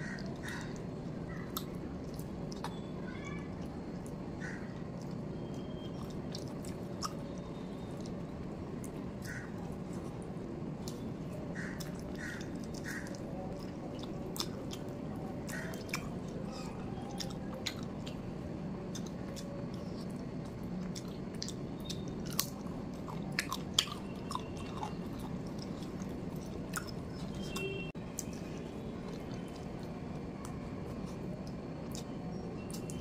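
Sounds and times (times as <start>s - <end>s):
chewing with wet mouth clicks: 0.0s - 33.0s.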